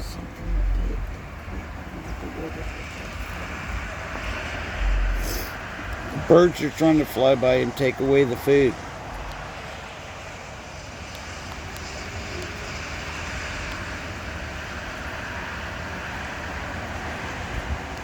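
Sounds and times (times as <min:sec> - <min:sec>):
low rumble of distant traffic: 0:00.0 - 0:18.0.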